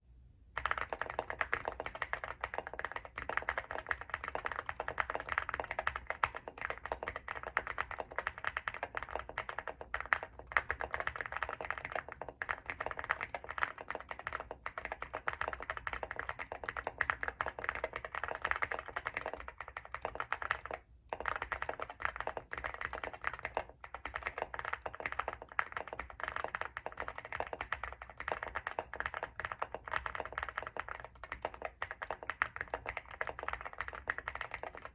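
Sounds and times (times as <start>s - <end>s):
mechanical keyboard typing: 0.6s - 34.9s.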